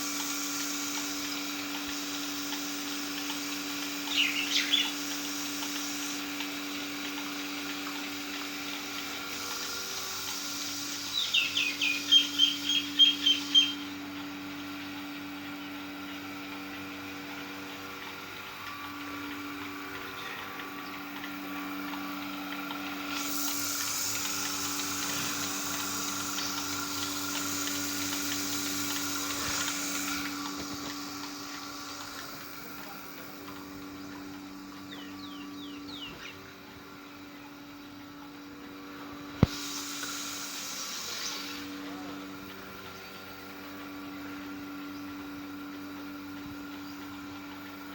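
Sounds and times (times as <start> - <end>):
steady machine hum: 0.0 - 47.9.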